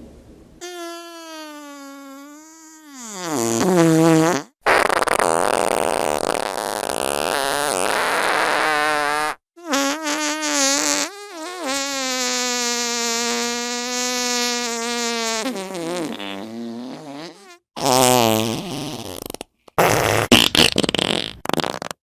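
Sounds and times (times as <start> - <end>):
fart sound effects: 0.6 - 22.0.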